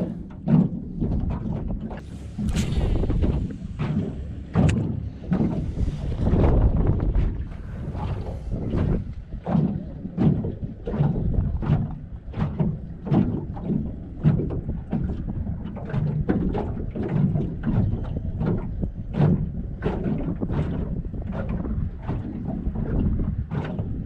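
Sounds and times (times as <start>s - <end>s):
waves slapping boat hull: 0.0s - 24.0s
wind rumbling on microphone: 0.0s - 24.0s.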